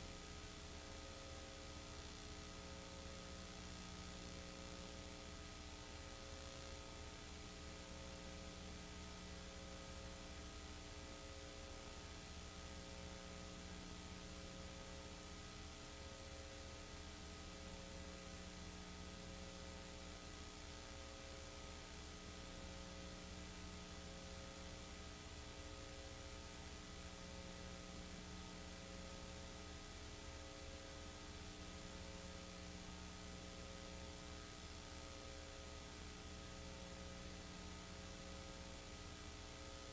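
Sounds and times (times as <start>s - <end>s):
faint electrical hum with hiss: 0.0s - 39.9s.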